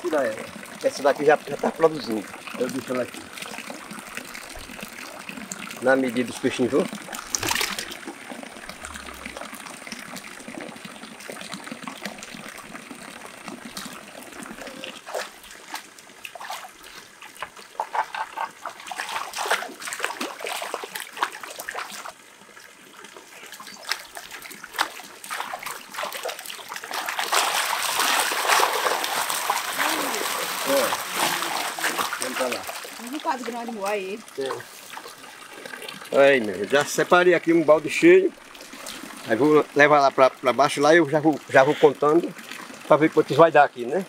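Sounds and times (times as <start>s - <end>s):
water dripping: 0.0s - 44.0s
water trickling and splashing: 0.0s - 44.0s.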